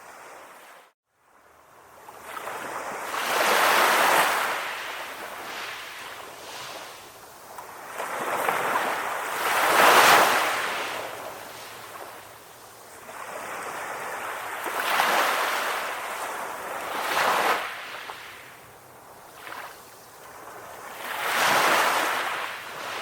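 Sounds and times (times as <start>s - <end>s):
ocean waves breaking: 2.2s - 23.0s.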